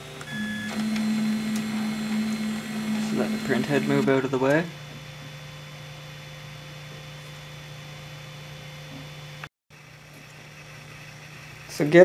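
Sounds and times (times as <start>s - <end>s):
printer low hum with hiss: 0.0s - 12.0s
thin steady whine: 0.0s - 12.0s.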